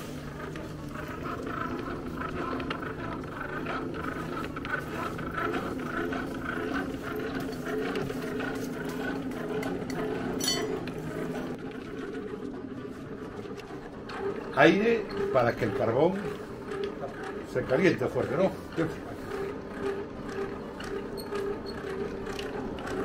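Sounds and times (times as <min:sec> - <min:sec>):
hand-cranked blower whirring: 0:00.0 - 0:23.0.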